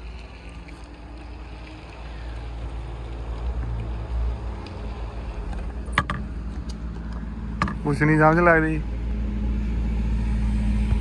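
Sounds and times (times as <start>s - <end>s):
vehicle engine idling: 0.0s - 11.0s
wind rumbling on microphone: 0.0s - 11.0s.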